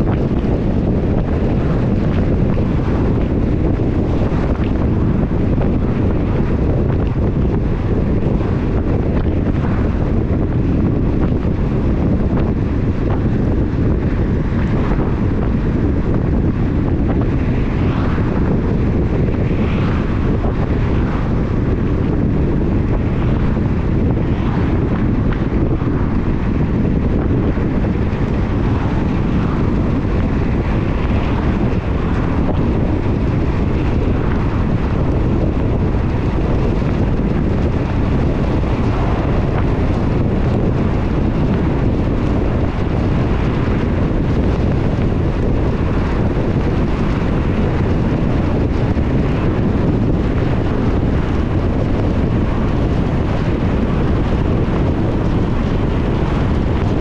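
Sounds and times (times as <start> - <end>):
car driving on wet road: 0.0 - 57.0.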